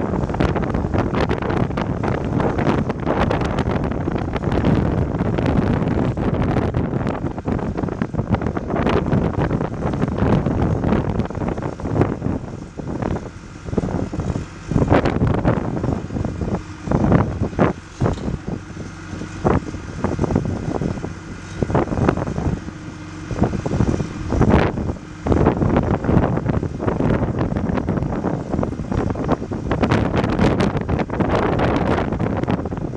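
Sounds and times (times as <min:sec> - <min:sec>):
diesel engine running: 0:00.0 - 0:32.9
wind buffeting microphone: 0:00.0 - 0:32.9.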